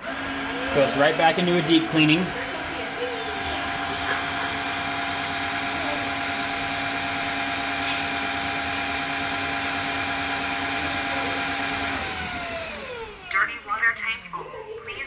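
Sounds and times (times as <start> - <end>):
vacuum motor running: 0.0 - 14.0.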